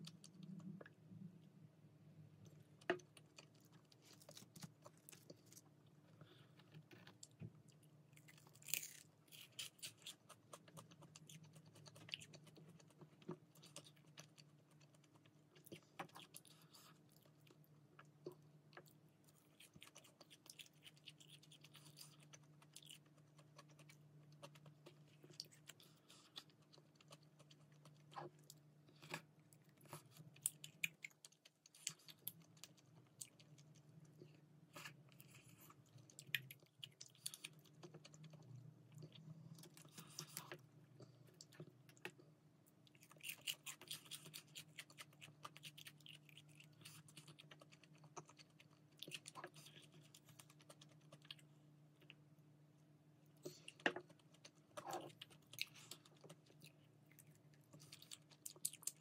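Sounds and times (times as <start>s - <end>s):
faint low hum: 0.0s - 59.0s
chewing and crunching fried chicken: 2.4s - 59.0s.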